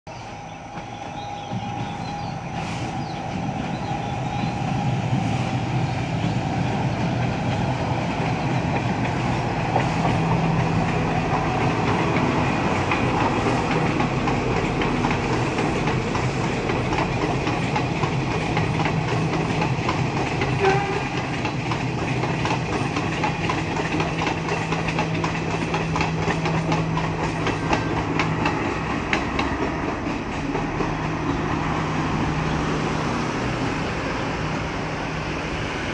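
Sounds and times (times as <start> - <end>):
diesel train engine humming: 0.1 - 35.9
train wheels clattering on rails: 0.1 - 35.9.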